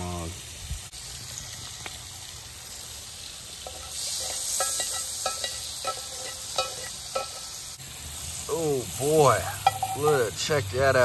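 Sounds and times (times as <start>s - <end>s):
meat sizzling in butter: 0.0s - 11.0s.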